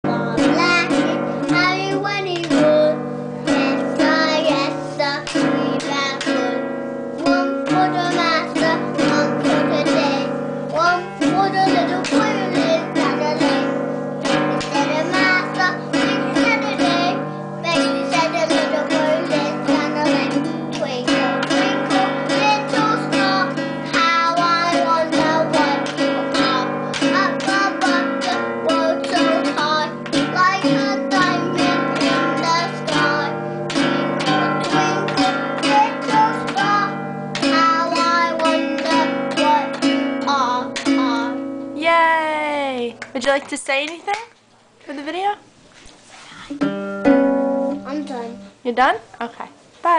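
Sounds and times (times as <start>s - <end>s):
child singing: 0.0s - 41.5s
acoustic guitar strumming: 0.0s - 43.1s, 46.5s - 48.8s.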